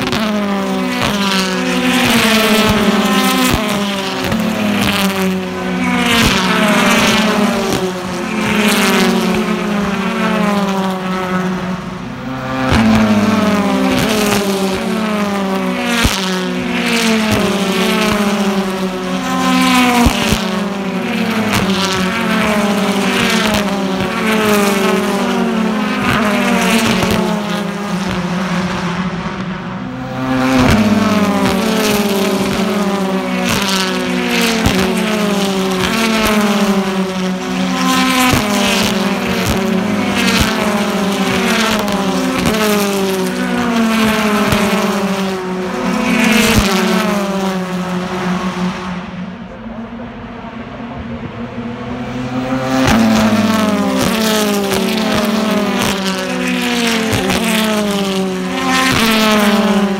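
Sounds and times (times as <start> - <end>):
racing cars accelerating past: 0.0 - 59.9.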